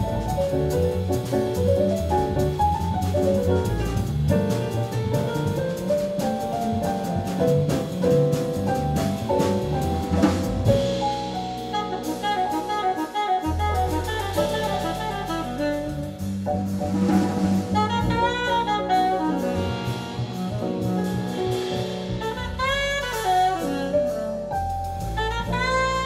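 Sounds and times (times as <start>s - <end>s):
double bass: 0.0s - 26.0s
drum kit with cymbals: 0.0s - 26.0s
piano: 0.0s - 26.0s
saxophone: 5.1s - 26.0s.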